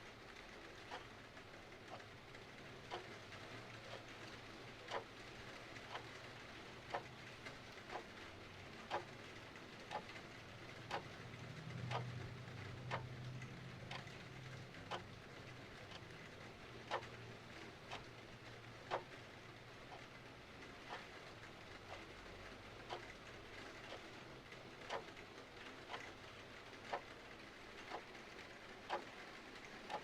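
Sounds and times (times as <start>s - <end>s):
clock ticking: 0.0s - 30.0s.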